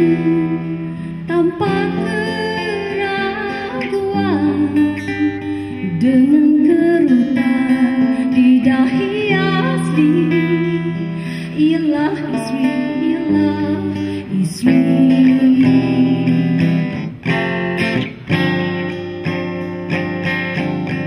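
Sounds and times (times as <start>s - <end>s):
woman singing with vibrato: 0.0s - 17.1s
instrumental backing music: 0.0s - 21.0s.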